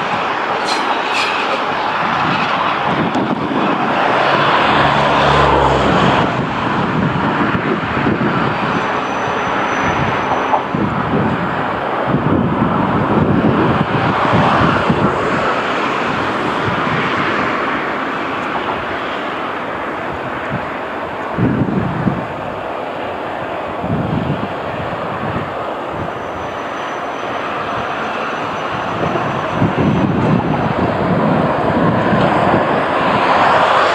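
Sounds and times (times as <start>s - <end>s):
diesel locomotive rumbling: 0.0s - 33.9s.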